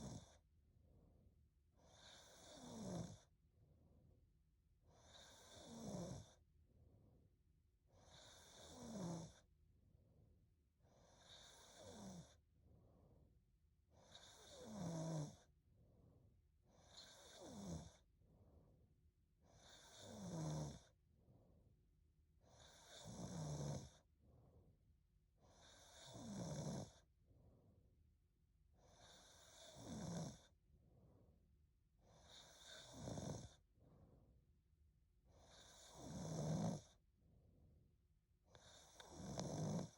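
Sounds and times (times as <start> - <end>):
quiet breaths: 0.0 - 28.1, 28.7 - 37.8, 38.4 - 39.9.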